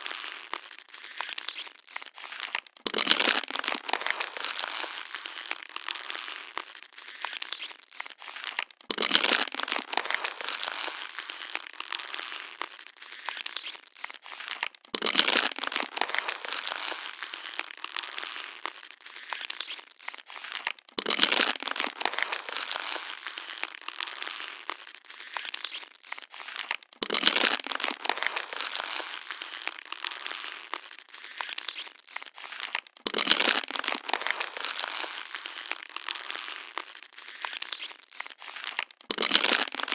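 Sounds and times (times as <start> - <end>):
plastic bottle crinkling: 0.0 - 39.9
plastic bottle crunch: 0.0 - 39.9.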